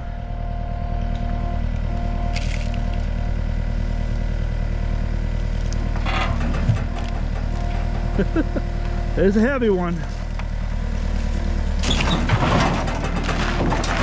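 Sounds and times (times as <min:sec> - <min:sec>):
loader engine running: 0:00.0 - 0:14.0.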